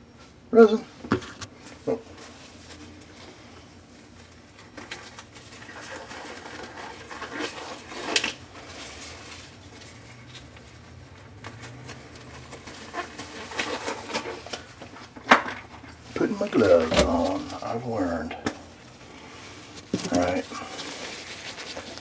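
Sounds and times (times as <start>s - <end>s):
gloves rustling: 1.2s - 22.0s.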